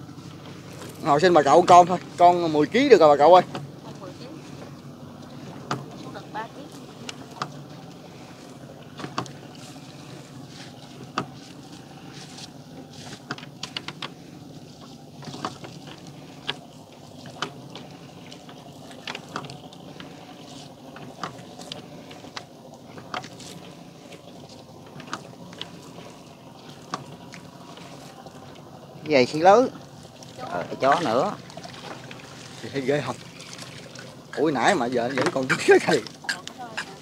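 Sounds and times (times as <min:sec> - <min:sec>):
boat engine low hum: 0:00.0 - 0:37.0.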